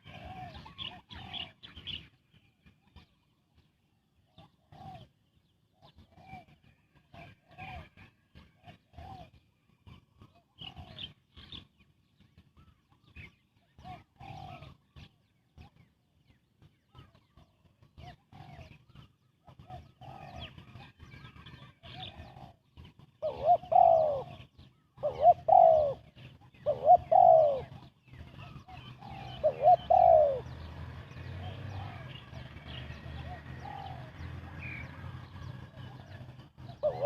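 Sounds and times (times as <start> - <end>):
dove cooing: 0.0 - 2.0, 4.3 - 11.6, 12.6 - 15.8, 16.9 - 37.0.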